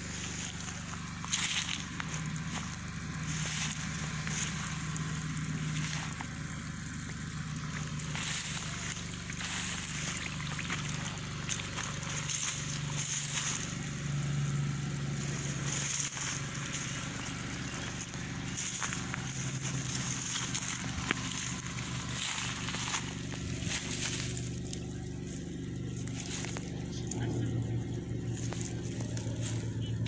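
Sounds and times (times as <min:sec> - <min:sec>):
generator engine humming: 0:00.0 - 0:30.0.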